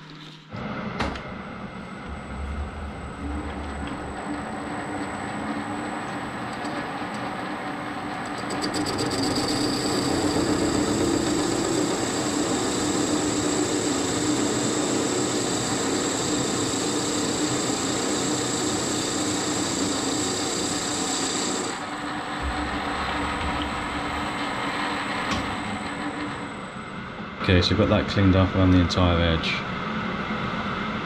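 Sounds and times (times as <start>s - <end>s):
metal lathe cutting: 2.0s - 27.0s.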